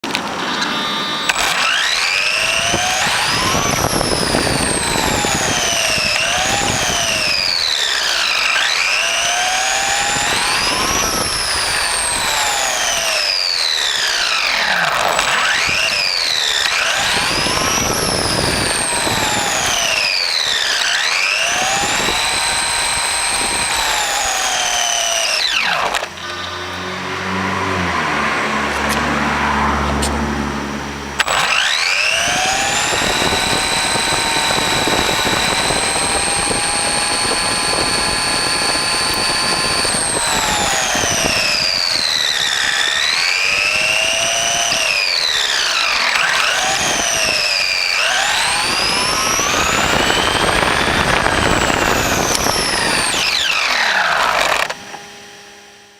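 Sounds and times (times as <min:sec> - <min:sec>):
steady rough drivetrain noise: 0:00.0 - 0:55.8
electric motor whine: 0:00.0 - 0:55.9.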